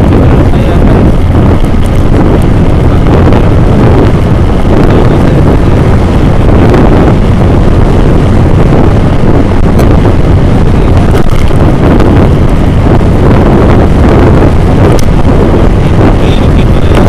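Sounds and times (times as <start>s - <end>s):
vehicle running: 0.0s - 17.0s
wind buffeting microphone: 0.0s - 17.0s.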